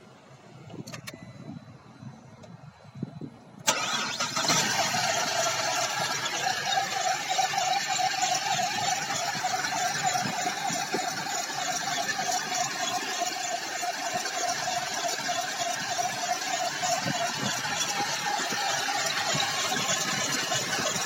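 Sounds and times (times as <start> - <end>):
car engine starting and running: 0.0 - 21.0.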